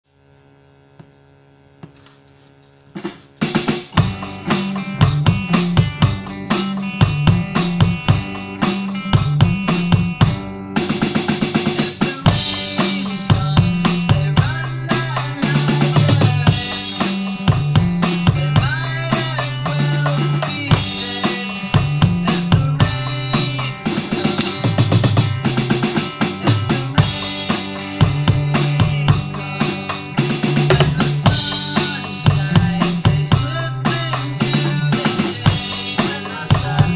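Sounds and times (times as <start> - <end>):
electronic drums playing a beat: 2.9 - 36.9
backing song with bass line: 3.0 - 36.9.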